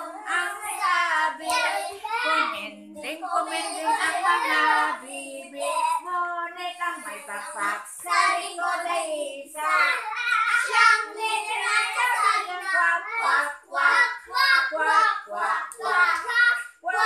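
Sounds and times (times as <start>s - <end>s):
young children singing: 0.0s - 17.0s.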